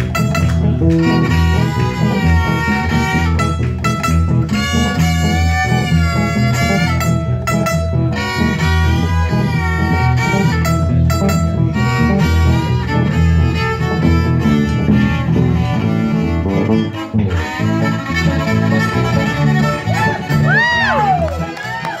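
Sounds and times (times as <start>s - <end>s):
bass line: 0.0s - 22.0s
electric guitar: 0.0s - 22.0s
fiddle melody: 0.0s - 22.0s.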